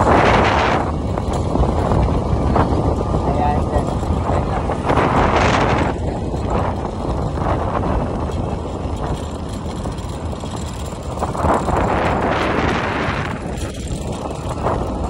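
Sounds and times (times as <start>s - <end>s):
motorbike engine: 0.0s - 15.0s
tyre noise: 0.0s - 15.0s
wind rushing over microphone: 0.0s - 15.0s.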